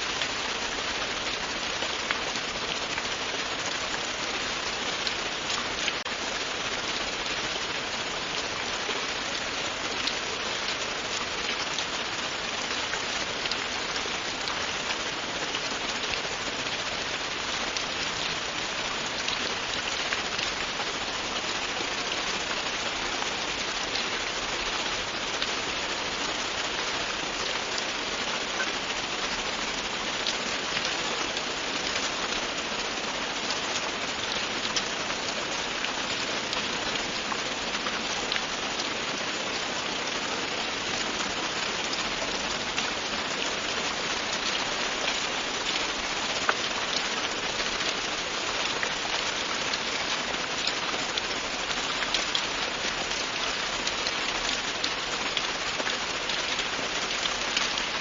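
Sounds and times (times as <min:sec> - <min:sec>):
steady rain with drops ticking: 0:00.0 - 0:58.0.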